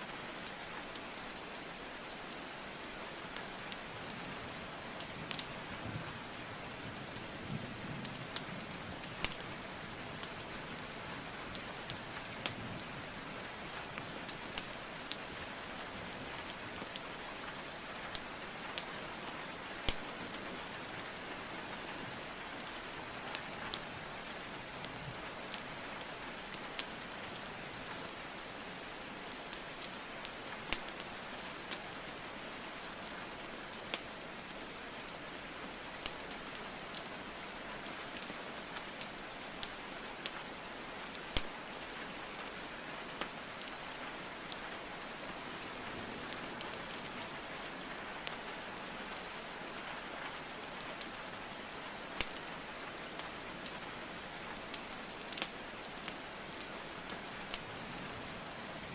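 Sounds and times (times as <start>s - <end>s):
rain hiss: 0.0s - 58.9s
burning logs crackling and popping: 3.3s - 7.4s, 8.0s - 49.6s, 50.4s - 58.9s.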